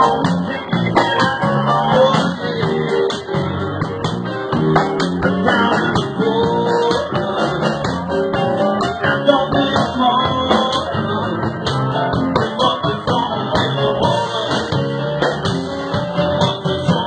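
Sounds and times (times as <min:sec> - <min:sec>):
bass guitar: 0:00.0 - 0:17.0
drum kit beat: 0:00.0 - 0:17.0
electric guitar: 0:00.0 - 0:17.0
live band playing: 0:00.0 - 0:17.0.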